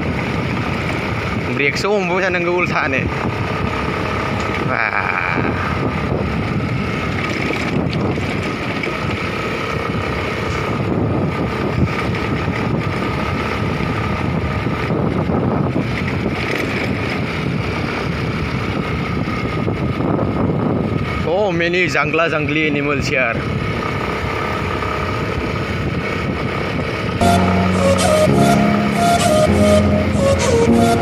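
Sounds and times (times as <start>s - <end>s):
wind buffeting microphone: 0.0s - 22.1s, 22.9s - 31.0s.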